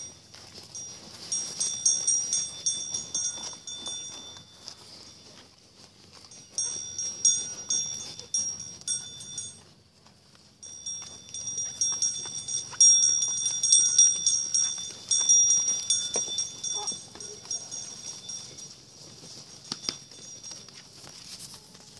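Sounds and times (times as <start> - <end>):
sheep bell jingling: 0.0 - 21.9.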